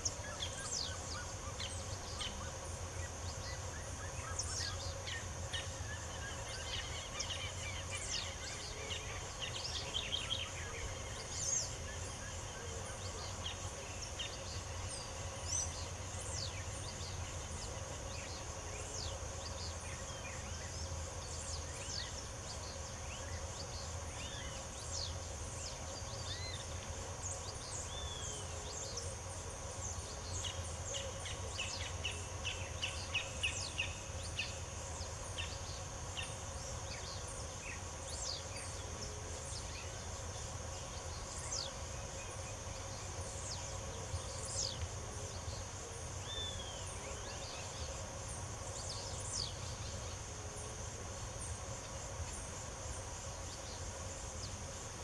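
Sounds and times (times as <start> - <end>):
high insect drone: 0.0 - 55.0
wild birds singing and calling: 0.0 - 55.0.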